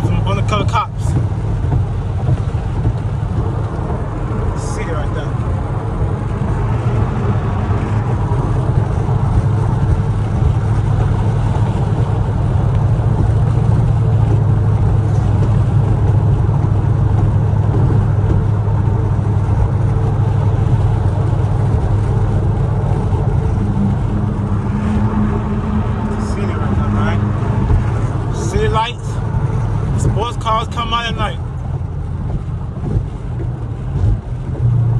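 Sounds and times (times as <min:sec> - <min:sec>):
car exhaust drone: 0:00.0 - 0:34.9.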